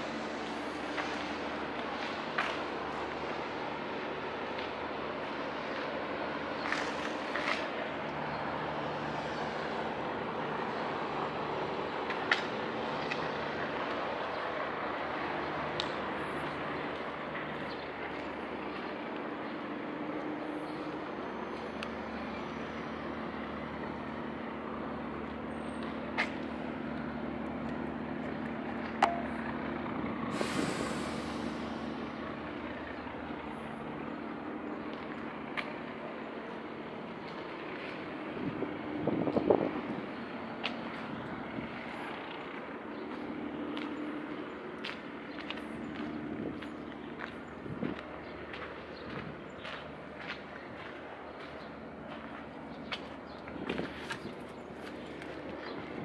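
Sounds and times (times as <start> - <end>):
distant engines droning: 0.0 - 56.0.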